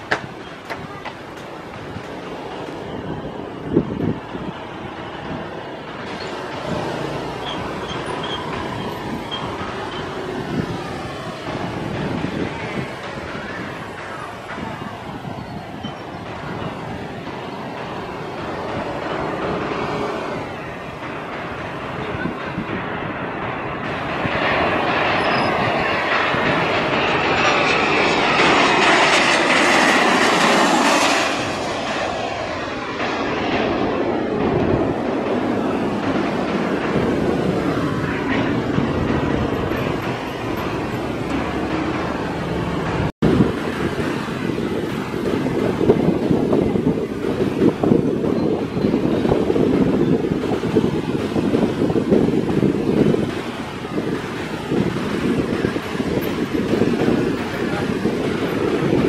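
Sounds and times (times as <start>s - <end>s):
jet airliner engines roaring: 0.0s - 59.0s.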